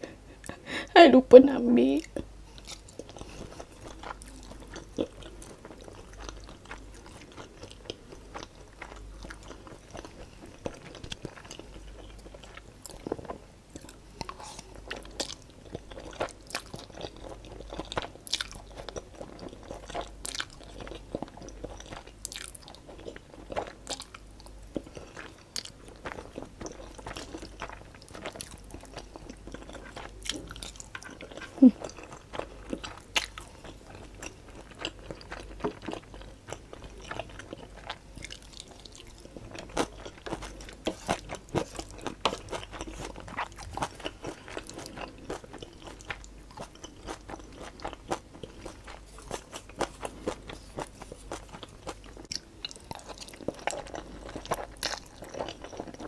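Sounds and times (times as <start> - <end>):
chewing and slurping noodles: 2.6 - 56.0.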